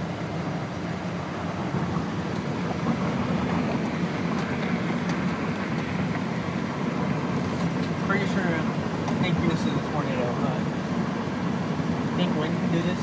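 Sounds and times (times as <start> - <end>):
moving car rumble and road noise: 0.0 - 13.0.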